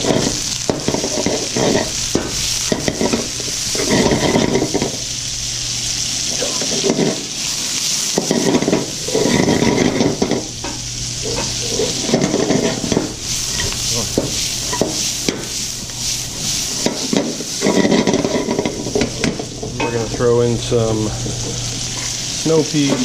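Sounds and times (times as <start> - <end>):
utensil stirring and scraping pan: 0.0 - 5.1, 6.2 - 23.0
vegetables sizzling in oil: 0.0 - 23.0.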